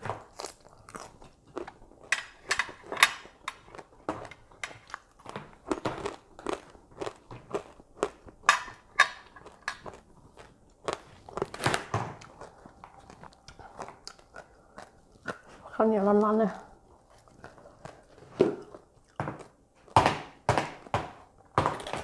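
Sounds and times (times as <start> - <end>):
chewing and crunching vegetables: 0.0 - 20.0.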